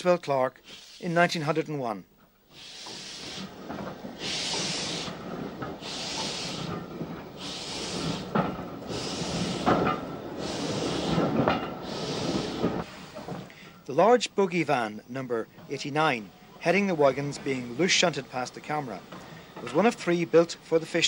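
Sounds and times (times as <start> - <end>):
steam locomotive chuffing: 2.5 - 21.0
wagons rolling rumble: 2.5 - 21.0.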